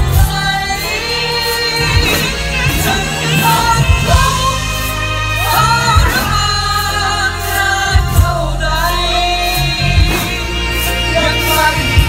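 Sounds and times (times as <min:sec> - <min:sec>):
live band playing: 0:00.0 - 0:12.0
people singing: 0:00.0 - 0:12.0.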